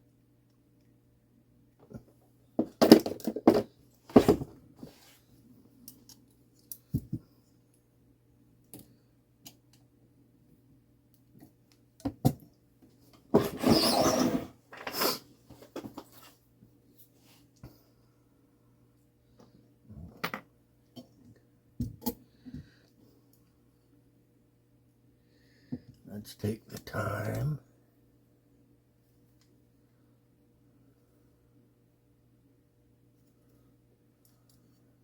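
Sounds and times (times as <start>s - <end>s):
faint steady hum: 0.0s - 13.5s, 14.6s - 35.0s.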